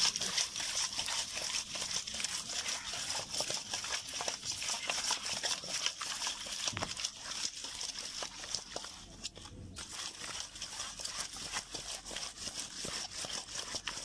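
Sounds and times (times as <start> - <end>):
hands scrubbing fish in water: 0.0 - 14.0.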